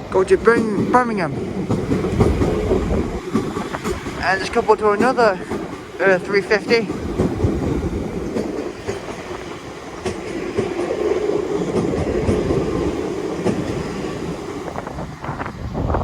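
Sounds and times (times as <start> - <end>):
wheels clicking over rail joints: 0.0 - 15.6
electric train running hum: 0.0 - 16.0.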